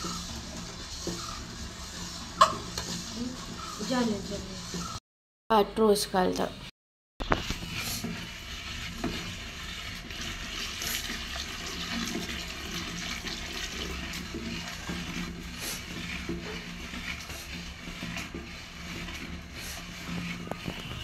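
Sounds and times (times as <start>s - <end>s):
liquid pouring and splashing: 0.0s - 5.0s, 7.2s - 21.0s
wooden paddle stirring in wok: 0.0s - 5.0s, 7.2s - 21.0s.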